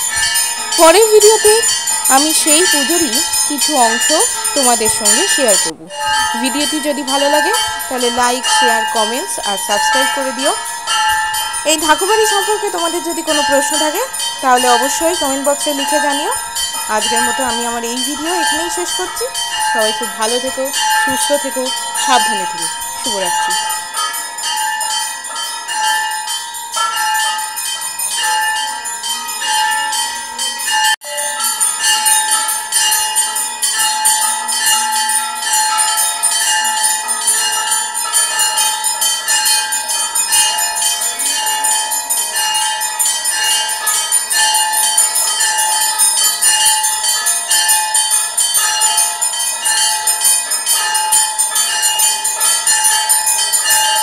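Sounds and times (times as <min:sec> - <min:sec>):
temple bells ringing rapidly: 0:00.0 - 0:54.0.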